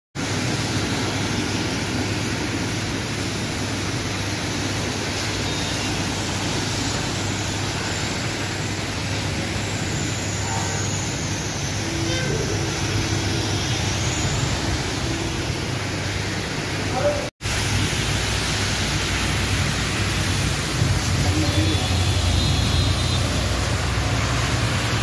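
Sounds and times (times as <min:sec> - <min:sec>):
heavy rain hissing: 0:00.2 - 0:25.0
vehicles passing on wet road: 0:00.2 - 0:25.0.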